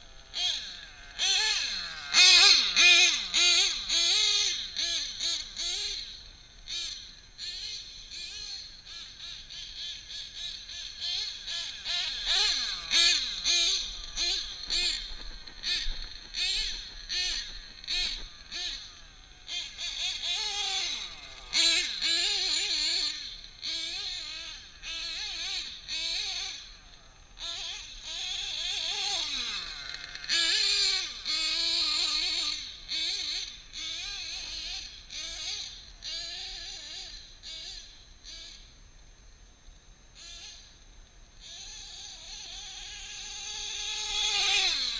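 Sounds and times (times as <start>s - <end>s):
small nitro engine revving: 0.0s - 38.7s, 40.1s - 40.7s, 41.4s - 44.9s.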